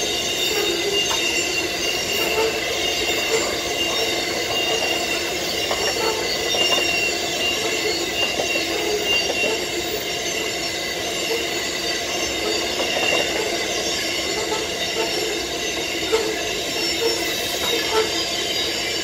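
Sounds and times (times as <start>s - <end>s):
train wheels squealing: 0.0s - 19.0s.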